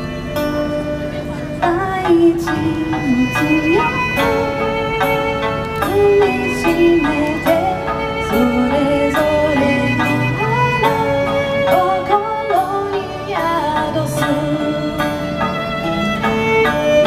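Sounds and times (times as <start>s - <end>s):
strummed string instrument: 0.0s - 17.0s
violin sliding melody: 0.0s - 17.0s.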